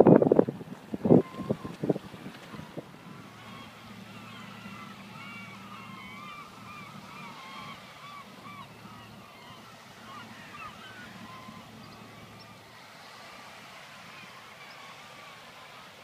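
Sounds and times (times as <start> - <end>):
seagulls calling: 1.0 - 16.0.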